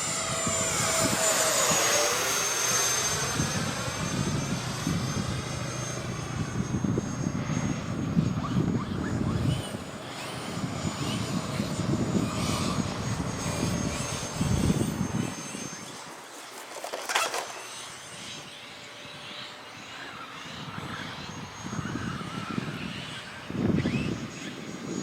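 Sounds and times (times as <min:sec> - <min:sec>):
wind rumbling on microphone: 0:00.0 - 0:16.1, 0:20.4 - 0:25.0
electric ducted fan whine: 0:00.0 - 0:25.0.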